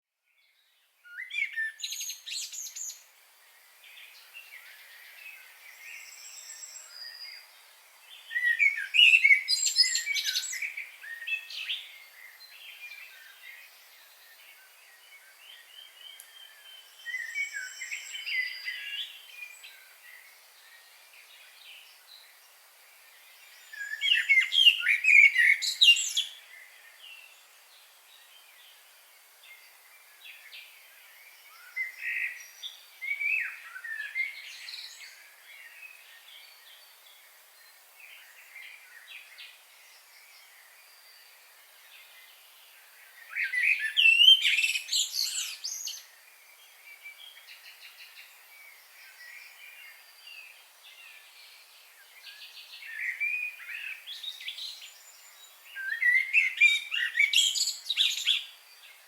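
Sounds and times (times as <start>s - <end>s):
songbirds chirping and trilling: 0.3s - 59.0s.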